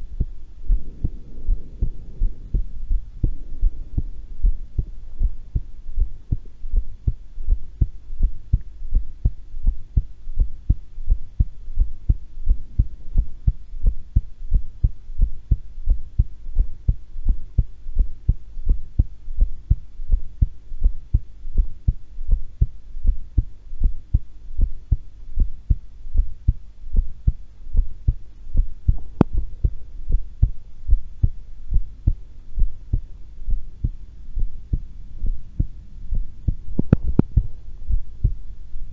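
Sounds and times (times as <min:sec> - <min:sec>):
faint steady hum: 0:00.0 - 0:38.9
heart beating: 0:00.0 - 0:38.9.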